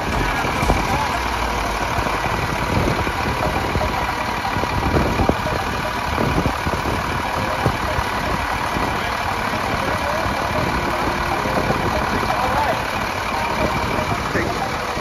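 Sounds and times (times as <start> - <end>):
diesel engine idling: 0.0 - 15.0
wind buffeting microphone: 0.0 - 15.0.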